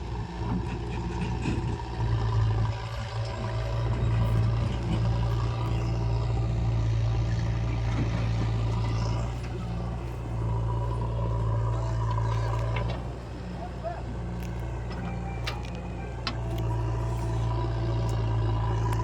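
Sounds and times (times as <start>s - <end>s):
heavy diesel engine humming: 0.0s - 19.0s.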